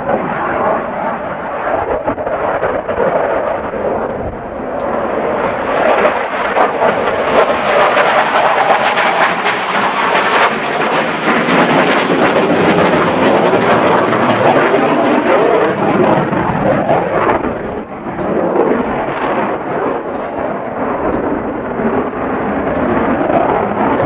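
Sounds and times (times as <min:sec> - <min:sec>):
jet engine roaring: 0:00.0 - 0:24.0.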